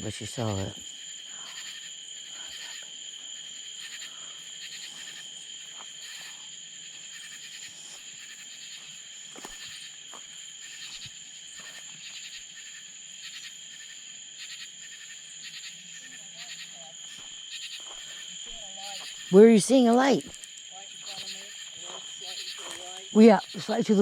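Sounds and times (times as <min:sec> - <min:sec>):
high-pitched insect drone: 0:00.0 - 0:24.0
insect chirps: 0:00.0 - 0:24.0.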